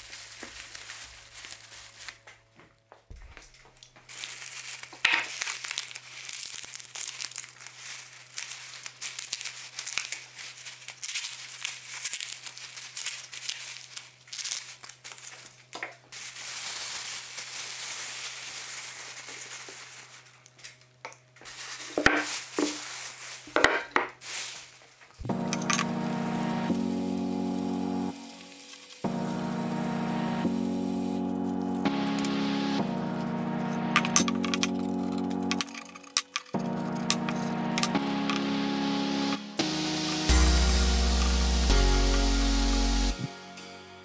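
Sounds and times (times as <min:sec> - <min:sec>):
plastic bin bag crinkling: 0:00.0 - 0:02.5, 0:03.3 - 0:38.7.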